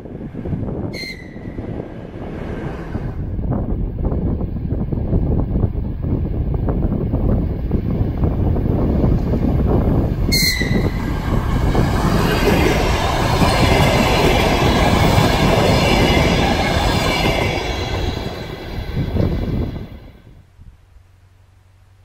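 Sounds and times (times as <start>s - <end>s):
train rumbling past on rails: 0.0s - 20.4s.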